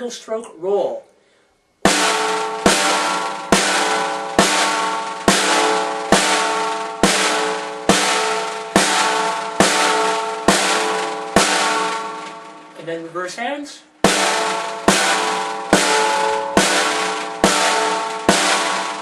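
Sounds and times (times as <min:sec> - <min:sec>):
snare drum strokes: 0:01.8 - 0:13.1, 0:14.0 - 0:19.0.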